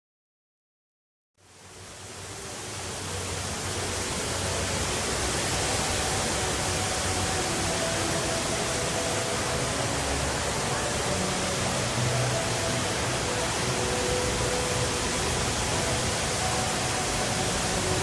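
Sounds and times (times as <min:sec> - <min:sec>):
indoor waterfall rushing: 0:01.4 - 0:18.0.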